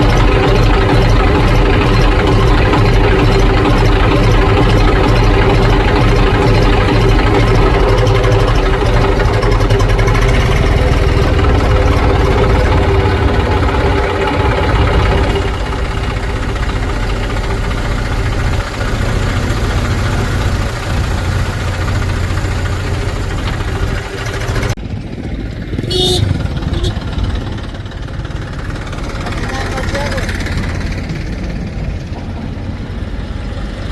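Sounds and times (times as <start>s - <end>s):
heavy diesel engine running: 0.0s - 33.9s.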